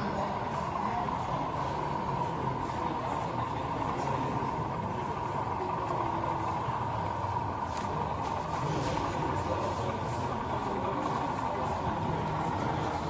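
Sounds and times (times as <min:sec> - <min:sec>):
hall background noise: 0:00.0 - 0:13.0.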